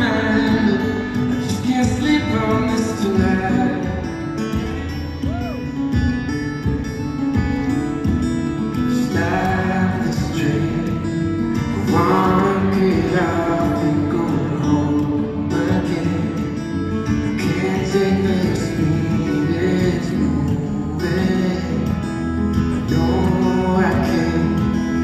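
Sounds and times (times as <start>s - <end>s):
man singing: 0.0s - 5.8s, 8.6s - 25.0s
acoustic guitar: 0.0s - 25.0s.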